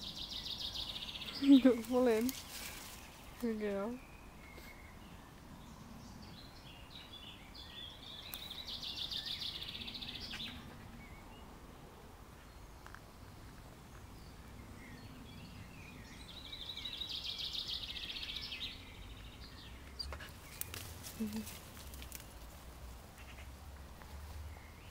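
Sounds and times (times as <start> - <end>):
songbird singing trills: 0.0 - 11.6, 12.5 - 22.4.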